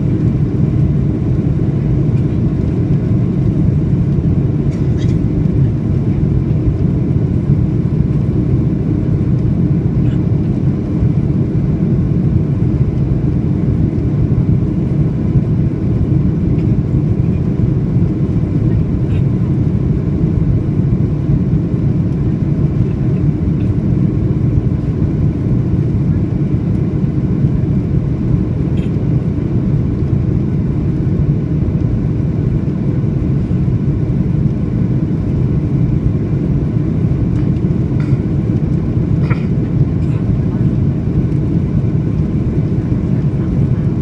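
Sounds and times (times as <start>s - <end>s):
airplane cabin rumble: 0.0s - 44.0s.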